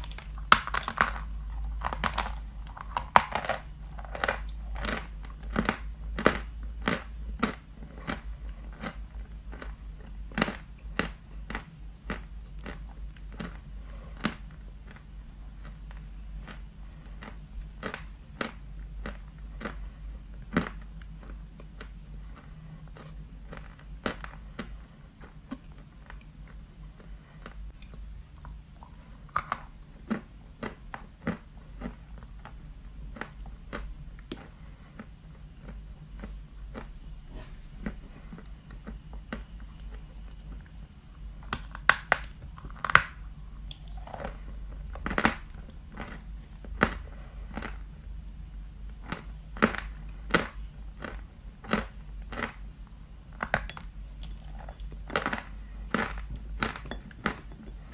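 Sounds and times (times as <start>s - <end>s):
chewing chalk crunches: 0.0s - 37.0s, 37.8s - 48.4s, 49.0s - 57.9s.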